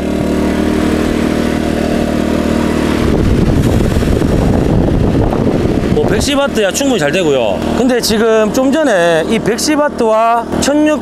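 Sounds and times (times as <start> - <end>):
electric fan rushing air: 0.0 - 11.0
generator running: 0.0 - 11.0.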